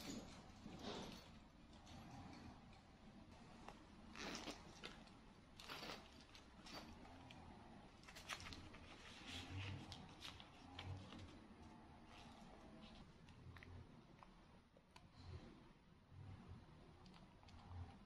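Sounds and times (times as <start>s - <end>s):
faint rustles and clicks: 0.0s - 15.4s.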